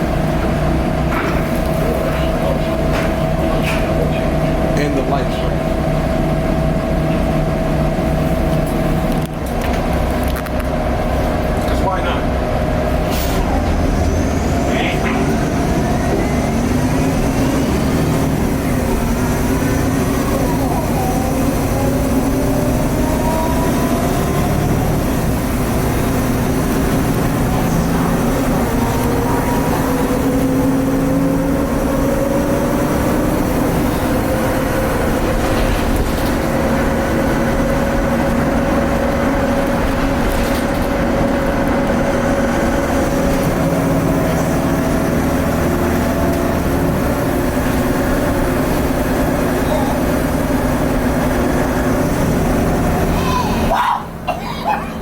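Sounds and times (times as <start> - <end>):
high turbo whine: 0.0 - 54.3
bus diesel engine: 0.0 - 55.0.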